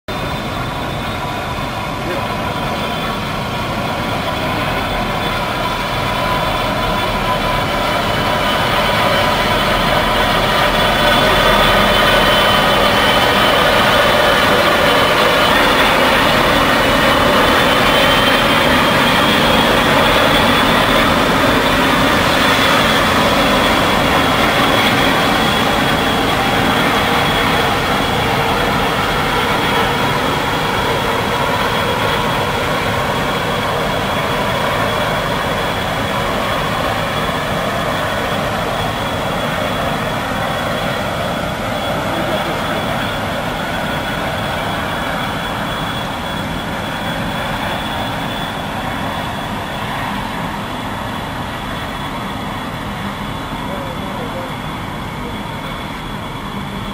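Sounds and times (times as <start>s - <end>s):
ferry engines rumbling with whine: 0.1s - 56.9s.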